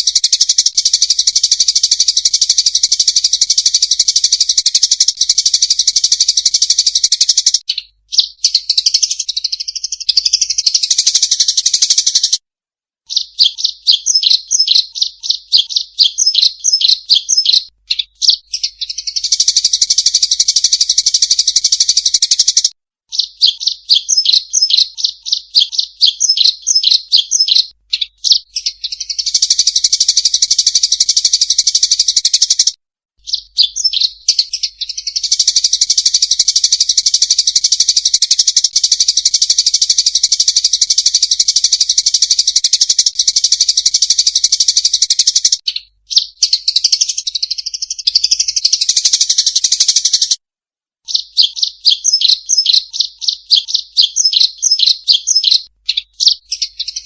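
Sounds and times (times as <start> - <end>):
sparrows chirping: 0.0 - 12.4, 13.1 - 50.4, 51.0 - 57.0.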